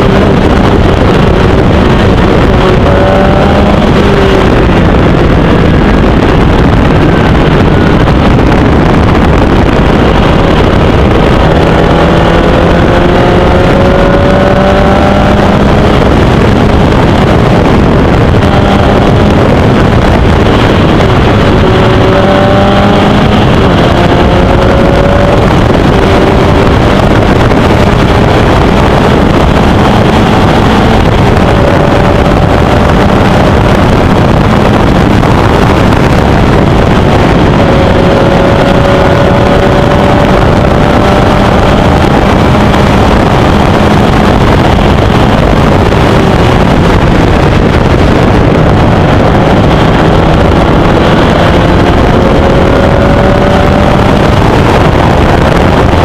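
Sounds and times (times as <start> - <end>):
race car engine climbing: 0.0 - 56.0
wind and road noise: 0.0 - 56.0.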